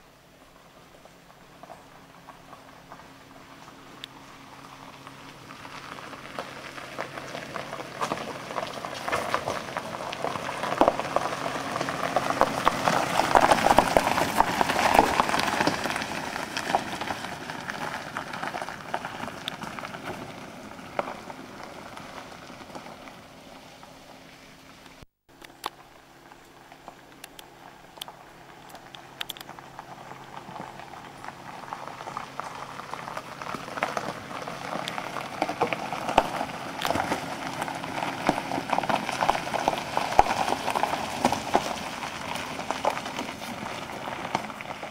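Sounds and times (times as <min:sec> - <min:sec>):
tyres crunching over gravel: 0:00.3 - 0:44.9.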